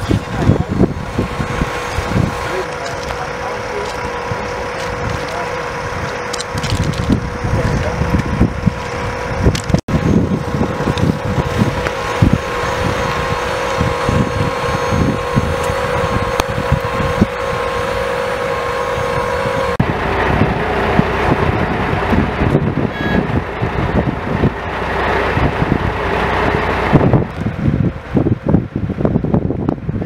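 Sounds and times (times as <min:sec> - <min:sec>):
fire engines idling hum: 0:00.0 - 0:30.0
wind buffeting microphone: 0:00.0 - 0:30.0.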